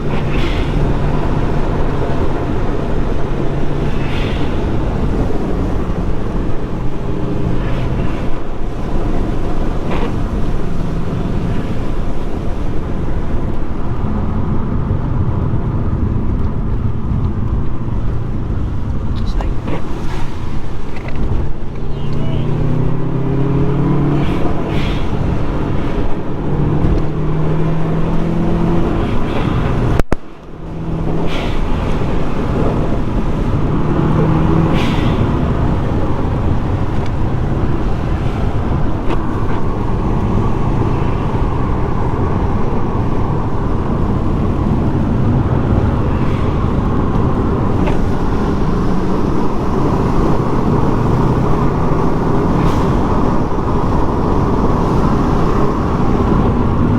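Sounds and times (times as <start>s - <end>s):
car engine running: 0.0s - 56.9s
tyre and road noise: 0.0s - 56.9s.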